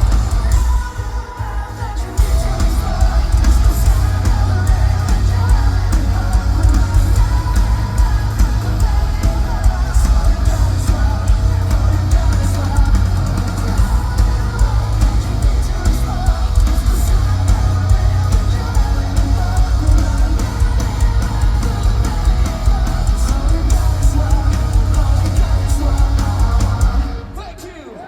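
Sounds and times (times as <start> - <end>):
live metal band playing: 0.0 - 28.0.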